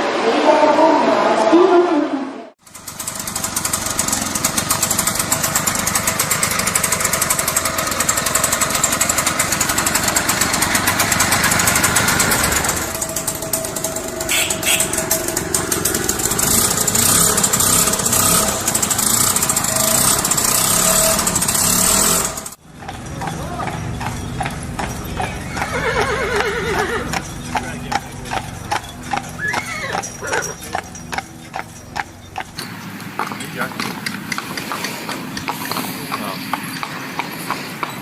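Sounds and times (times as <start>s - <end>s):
scooter engine buzzing: 2.6s - 38.0s.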